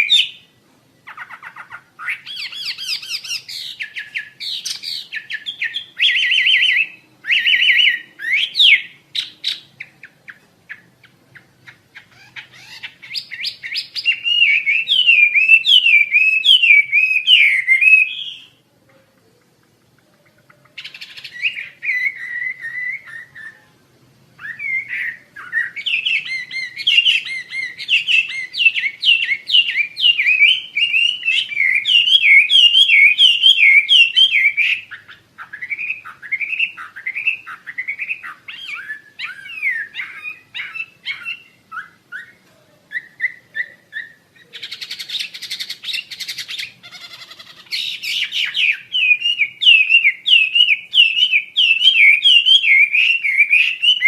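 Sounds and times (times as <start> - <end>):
songbird singing trills and whistles: 0.0 - 23.8, 24.4 - 54.0.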